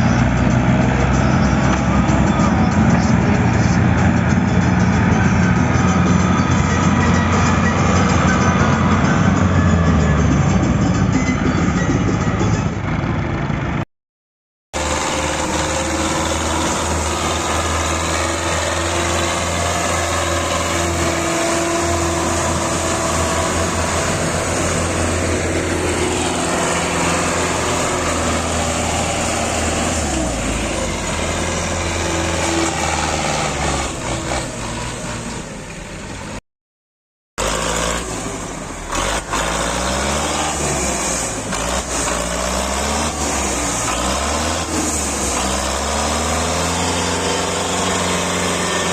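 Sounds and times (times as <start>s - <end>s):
tractor engine revving: 0.0s - 13.8s, 14.7s - 36.4s, 37.4s - 48.9s.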